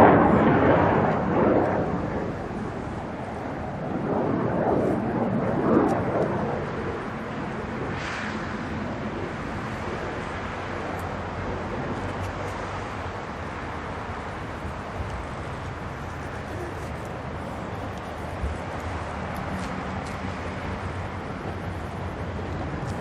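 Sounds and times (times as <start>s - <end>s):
distant jet engine rushing: 0.0s - 23.0s.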